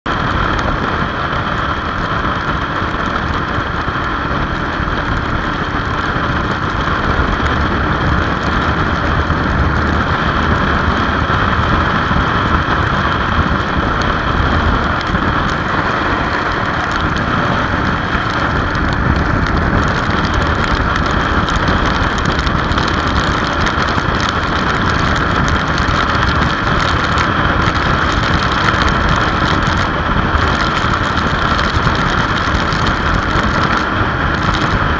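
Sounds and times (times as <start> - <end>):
motorcycle engine running: 0.0 - 34.9
wind and wet road noise: 0.0 - 34.9.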